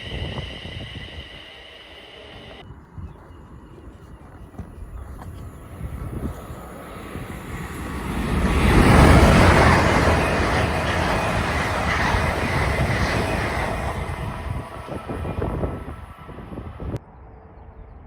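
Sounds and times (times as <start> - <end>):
train passing on rails: 0.0 - 17.0.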